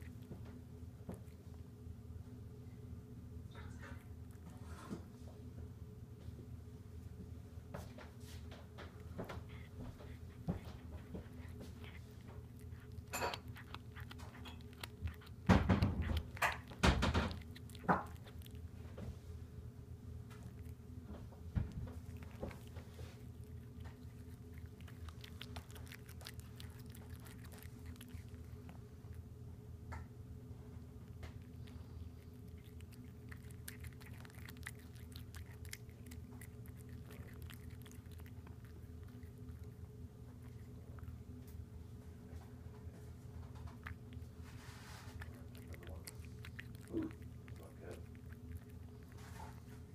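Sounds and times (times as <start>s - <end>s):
cat chewing: 0.0s - 49.9s
steady low hum: 0.0s - 49.9s.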